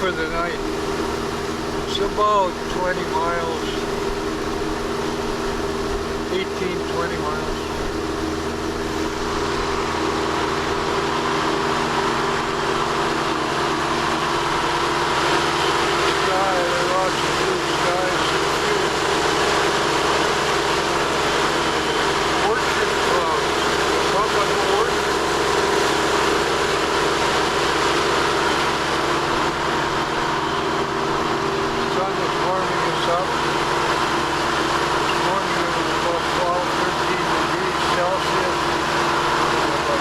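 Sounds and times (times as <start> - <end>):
boat motors humming: 0.0 - 40.0
rushing water noise: 0.0 - 40.0.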